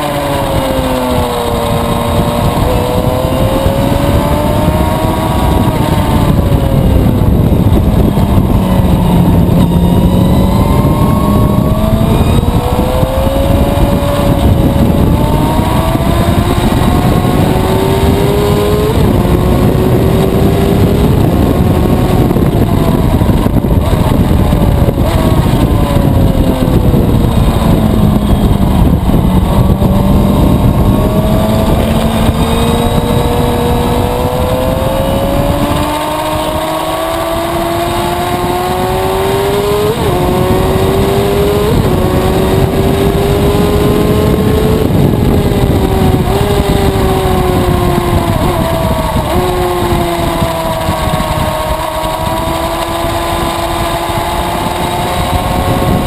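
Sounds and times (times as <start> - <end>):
motorcycle engine at speed: 0.0 - 56.0
wind rush: 0.0 - 56.0.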